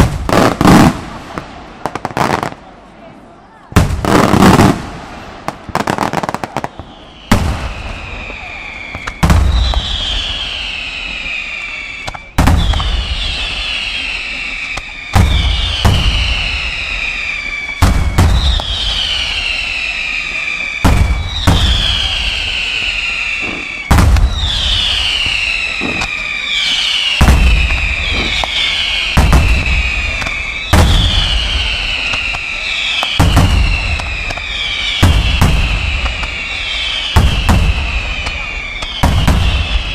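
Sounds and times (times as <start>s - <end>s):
firework shells exploding: 0.0s - 2.7s, 3.8s - 39.9s
falling high whistle: 6.0s - 39.9s.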